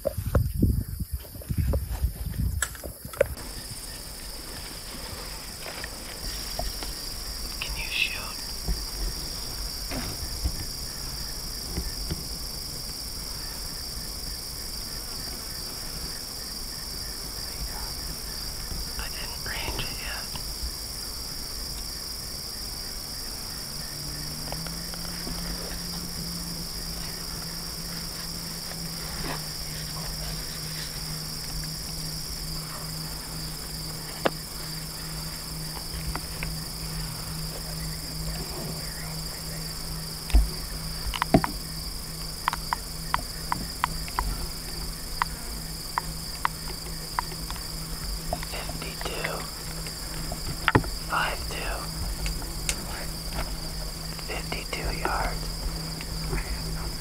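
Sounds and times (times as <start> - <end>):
crickets chirring: 0.0 - 57.0
low steady hum: 0.0 - 57.0.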